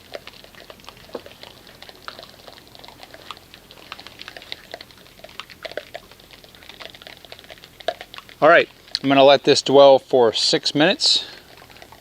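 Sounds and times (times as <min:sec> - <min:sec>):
soap foam bubbles popping: 0:00.0 - 0:09.9, 0:10.8 - 0:12.0.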